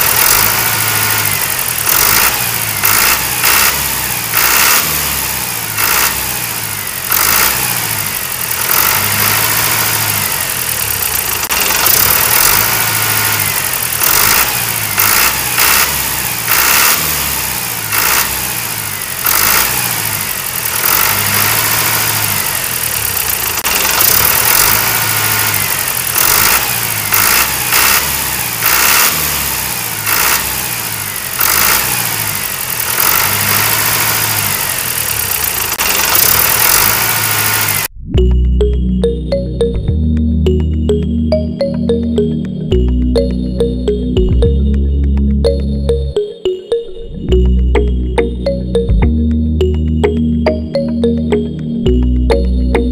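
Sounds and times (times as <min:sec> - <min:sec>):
tractor engine revving: 0:00.0 - 0:46.3, 0:47.3 - 0:52.9.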